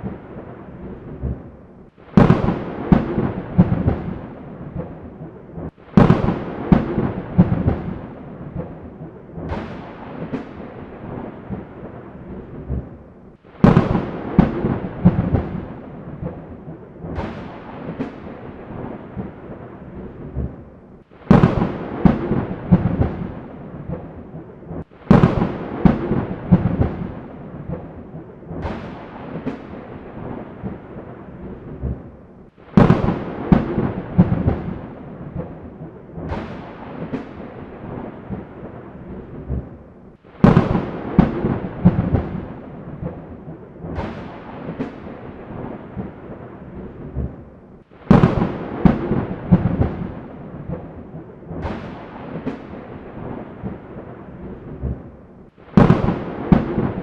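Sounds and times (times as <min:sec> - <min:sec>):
thunderclaps and rolling rumbles: 0:00.0 - 0:57.0.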